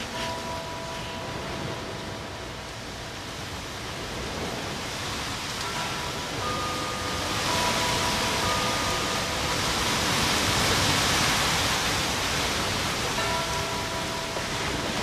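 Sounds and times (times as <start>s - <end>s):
distant ocean surf: 0.0s - 15.0s.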